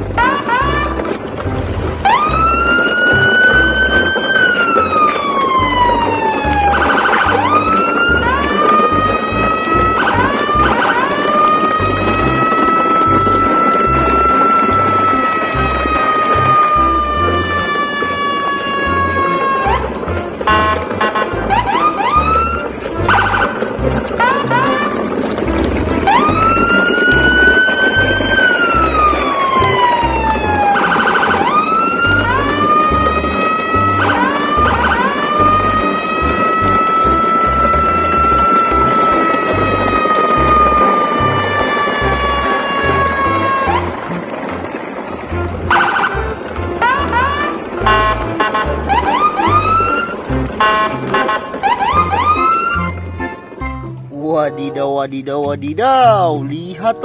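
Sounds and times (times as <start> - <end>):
emergency siren wailing: 0.0 - 53.7.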